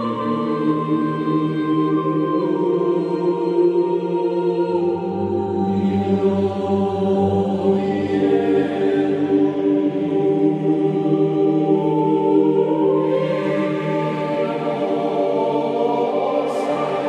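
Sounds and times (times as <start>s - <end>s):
choir holding sustained notes: 0.0s - 17.0s.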